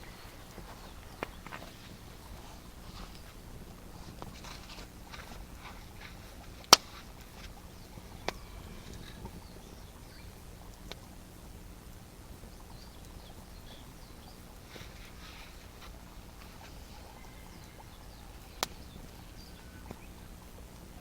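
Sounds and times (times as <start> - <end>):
campfire wood popping: 0.0 - 21.0
faint high chirps: 0.0 - 21.0
low steady background noise: 0.0 - 21.0.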